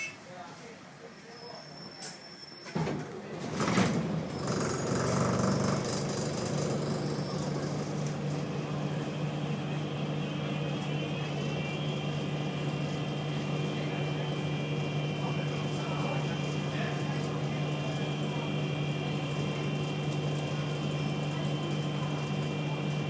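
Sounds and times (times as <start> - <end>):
diesel bus engine idling: 4.0 - 23.0.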